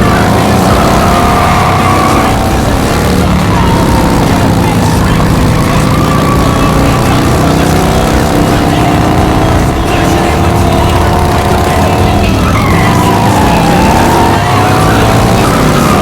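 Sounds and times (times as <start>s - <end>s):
racing car engines running hard: 0.0s - 16.0s.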